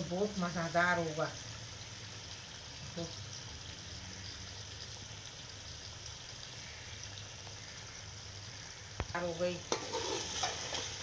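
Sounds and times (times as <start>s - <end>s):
curry simmering and sizzling: 0.0s - 11.0s.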